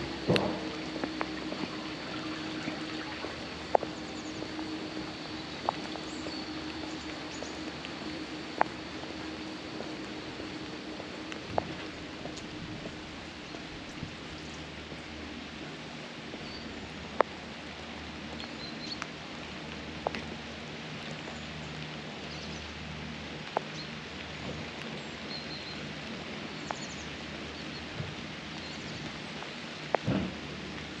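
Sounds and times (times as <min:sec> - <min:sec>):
steady hiss with low hum: 0:00.0 - 0:31.0.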